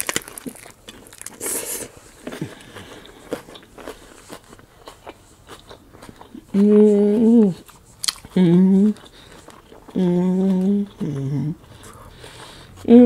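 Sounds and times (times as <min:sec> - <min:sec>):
lettuce crunching bite: 0:00.0 - 0:12.8
close-up crunchy chewing: 0:00.0 - 0:13.0.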